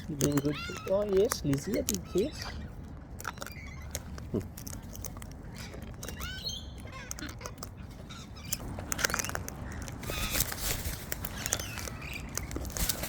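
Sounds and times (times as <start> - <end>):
beaks clicking and crunching: 0.0 - 13.0
soft bird chirps: 0.0 - 13.0.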